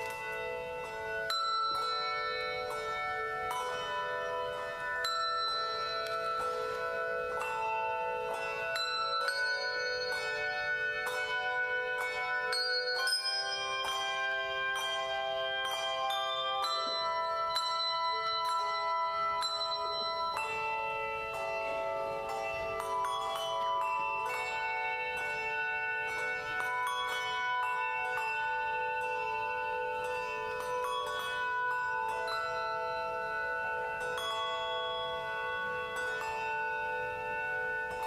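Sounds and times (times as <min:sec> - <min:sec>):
handbell choir playing: 0:00.0 - 0:38.0.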